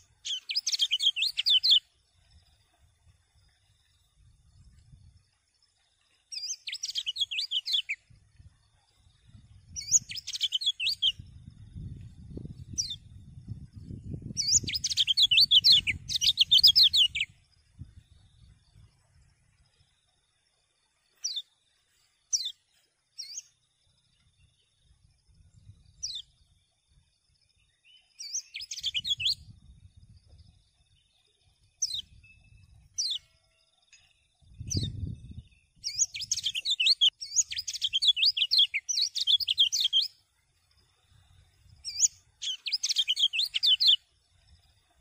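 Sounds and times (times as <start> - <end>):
bird chirping and twittering: 0.0 - 2.6, 6.3 - 19.8, 21.0 - 26.5, 27.6 - 44.9.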